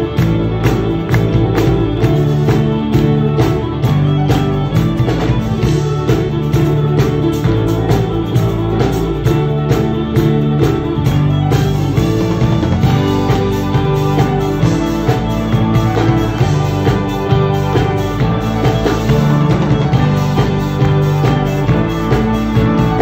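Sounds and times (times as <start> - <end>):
upbeat band music with violin: 0.0 - 23.0.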